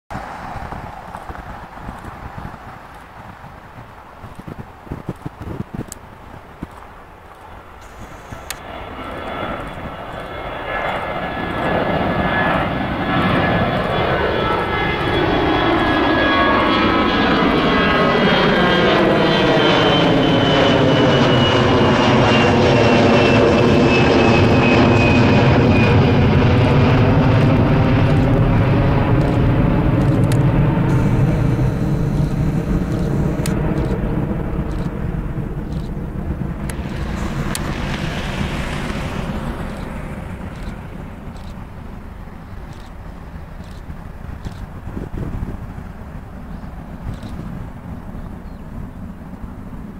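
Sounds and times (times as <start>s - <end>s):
jet engines passing overhead: 0.1s - 49.9s.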